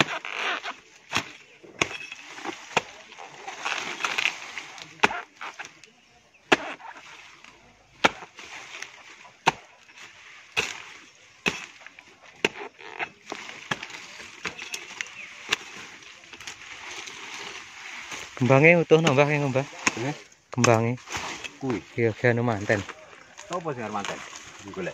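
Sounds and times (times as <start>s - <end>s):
blade chopping palm wood: 0.0s - 21.6s.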